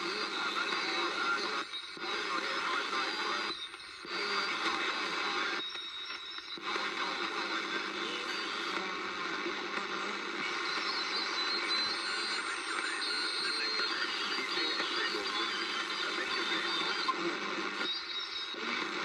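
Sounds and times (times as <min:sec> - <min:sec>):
radio static: 0:00.0 - 0:19.0.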